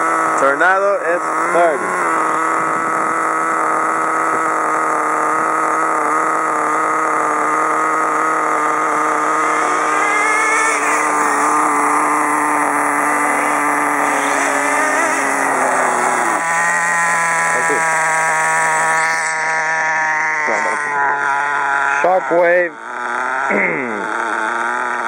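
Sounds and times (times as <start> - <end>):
small model engines idling: 0.0 - 25.0.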